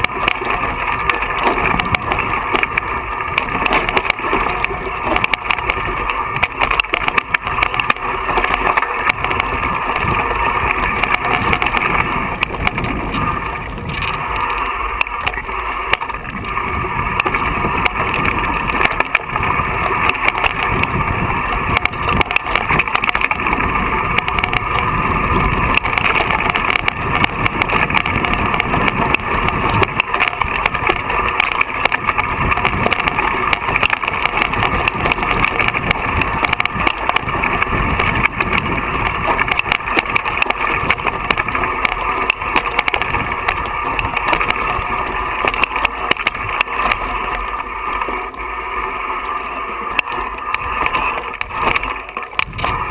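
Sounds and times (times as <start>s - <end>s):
bike rattling over stones: 0.0s - 52.9s.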